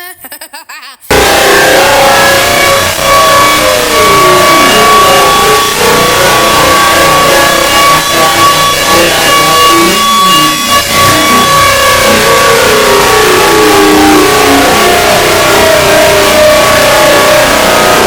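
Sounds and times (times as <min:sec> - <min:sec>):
loud engine revving: 0:01.1 - 0:18.0.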